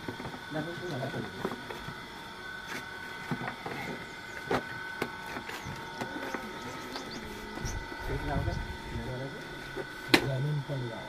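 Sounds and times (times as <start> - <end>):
faint steady high hum: 0.0 - 11.0.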